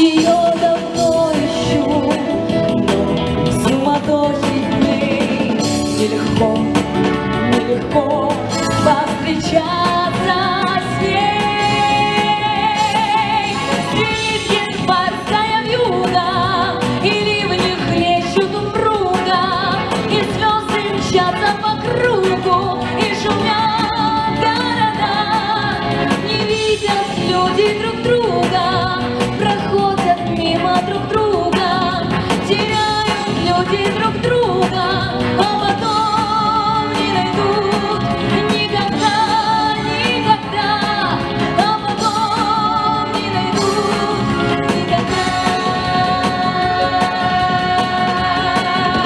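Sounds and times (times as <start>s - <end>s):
instrumental backing track: 0.0s - 49.0s
woman singing with vibrato: 0.0s - 49.0s.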